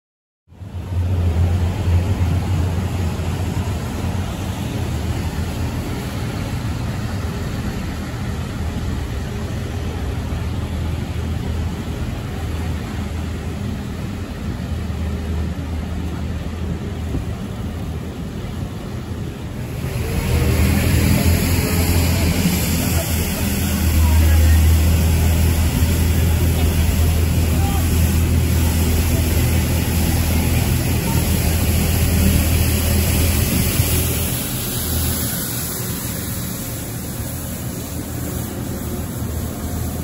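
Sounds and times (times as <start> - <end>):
rain: 0.5 - 40.0
wet traffic: 0.5 - 40.0.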